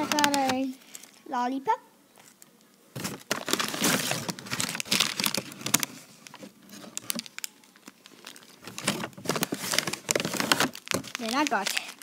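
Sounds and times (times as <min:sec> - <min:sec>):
plastic wrappers crinkling: 0:00.0 - 0:01.2, 0:03.0 - 0:12.0.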